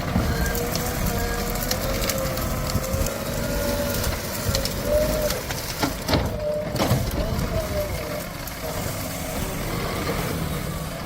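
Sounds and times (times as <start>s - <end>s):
crunching and cracking: 0.0s - 11.0s
diesel engine whining under load: 0.0s - 11.0s.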